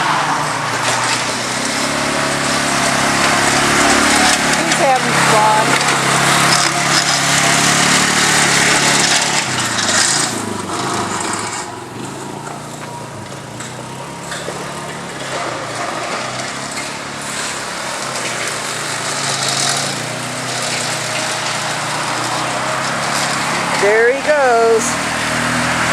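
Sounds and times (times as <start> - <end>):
lawn mower engine running: 0.0 - 25.9.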